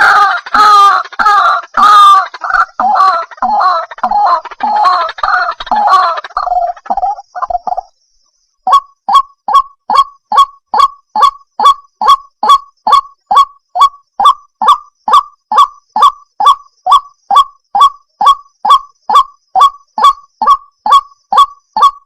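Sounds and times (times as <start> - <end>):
bird harsh croaking call: 0.0 - 8.0, 8.6 - 22.0.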